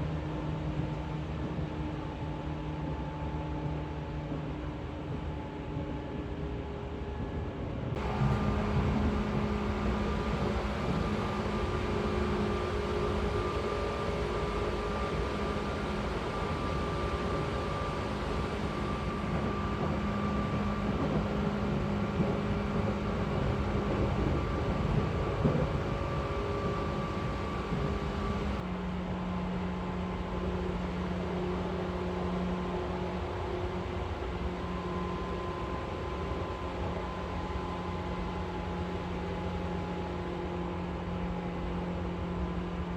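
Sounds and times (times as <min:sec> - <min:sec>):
train wheels rumbling on track: 0:00.1 - 0:42.9
electric drive whine: 0:08.0 - 0:42.9.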